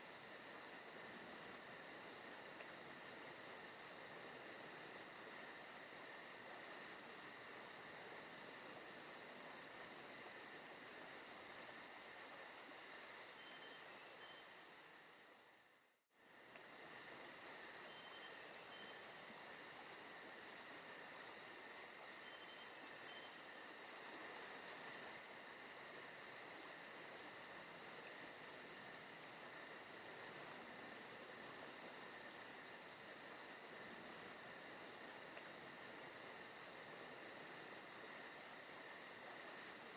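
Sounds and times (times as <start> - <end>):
insects chirring: 0.1 - 39.9.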